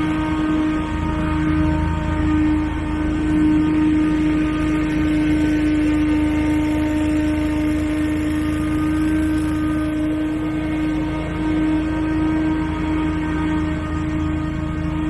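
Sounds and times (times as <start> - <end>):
power equipment engine whining: 0.0 - 15.0.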